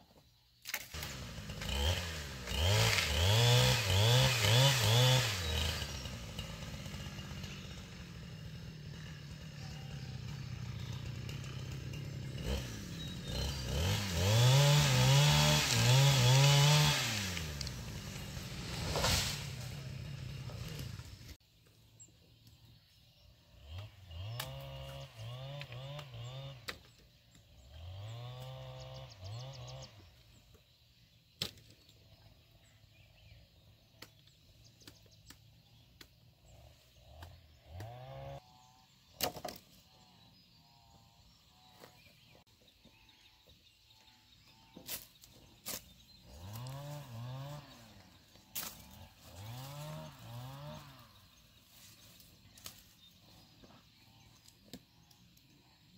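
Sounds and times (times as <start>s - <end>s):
small engine revving: 0.6s - 21.4s, 22.0s - 55.9s.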